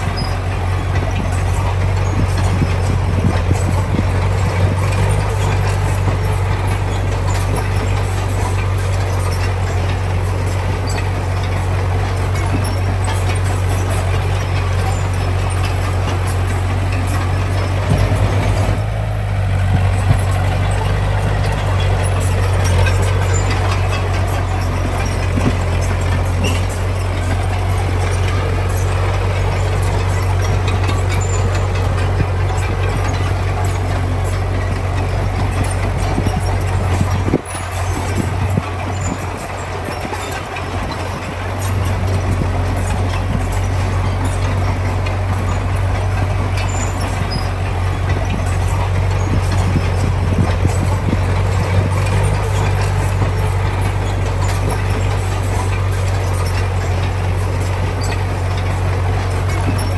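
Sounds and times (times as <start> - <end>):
diesel engine drone: 0.0 - 59.9
mechanical clatter and grind: 0.0 - 59.9.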